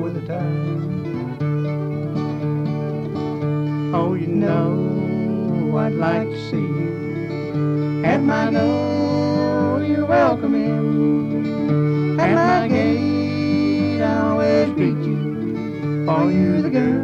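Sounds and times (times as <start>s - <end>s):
acoustic bluegrass guitar music: 0.0s - 17.0s.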